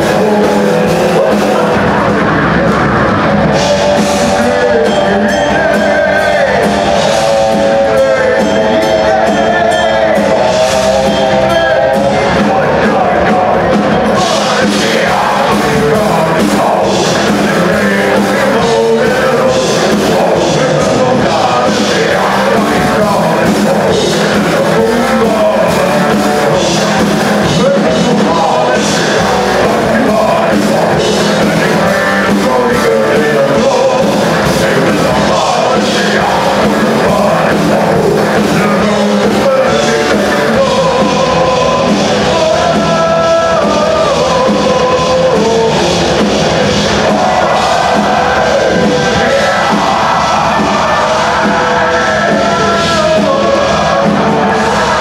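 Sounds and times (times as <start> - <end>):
live metal band playing: 0.0 - 55.0
men singing together: 0.0 - 55.0.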